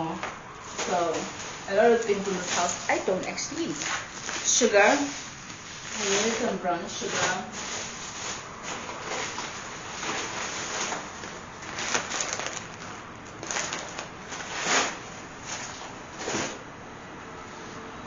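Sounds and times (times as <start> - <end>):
plastic bags rustling and crinkling: 0.5 - 16.6.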